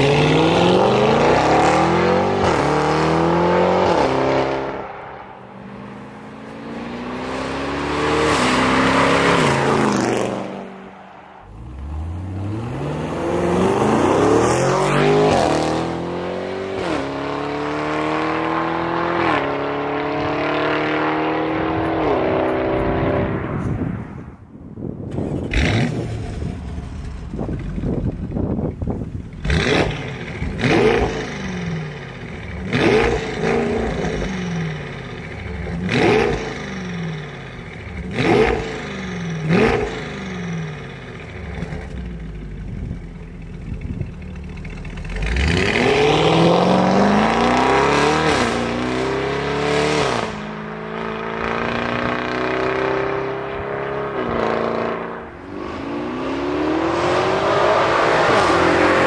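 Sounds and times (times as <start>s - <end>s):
car engine revving with crackles: 0.0s - 23.9s, 25.0s - 59.0s
car accelerating hard: 0.0s - 24.0s, 25.1s - 42.2s, 44.8s - 59.0s.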